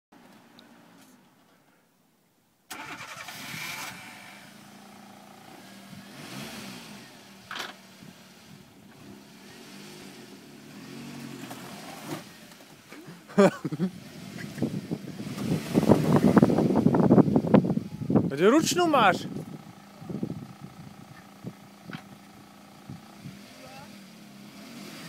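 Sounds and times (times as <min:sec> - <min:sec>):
car engine revving: 0:02.7 - 0:25.0.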